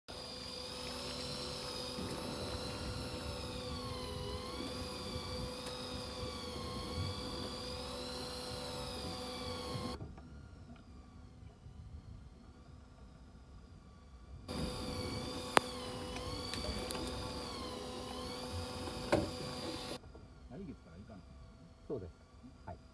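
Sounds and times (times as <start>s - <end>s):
motor whining: 0.1s - 20.0s.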